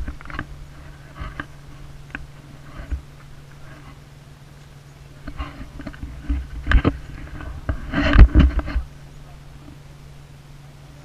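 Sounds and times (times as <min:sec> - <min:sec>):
engine running low: 0:00.0 - 0:11.0.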